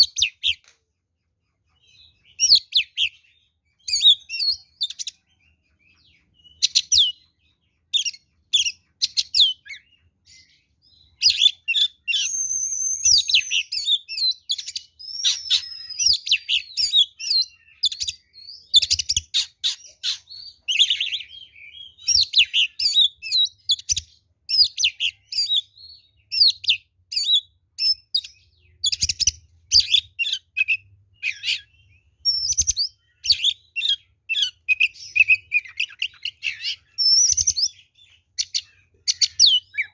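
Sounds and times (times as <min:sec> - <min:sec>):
magpie-robin singing: 0:00.0 - 0:00.8, 0:01.6 - 0:39.9.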